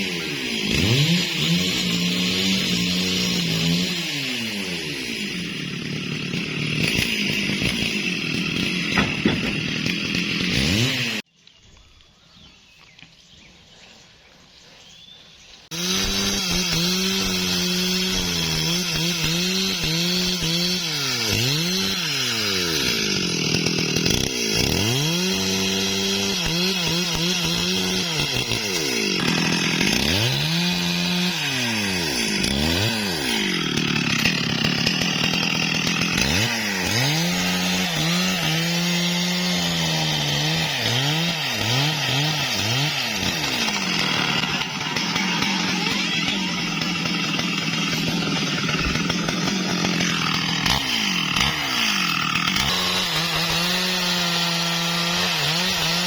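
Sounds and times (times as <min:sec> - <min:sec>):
chainsaw running: 0:00.0 - 0:11.3, 0:15.6 - 0:56.0.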